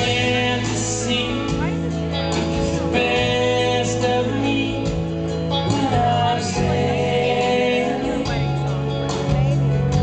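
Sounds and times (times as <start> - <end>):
electric guitar playing: 0.0 - 10.0.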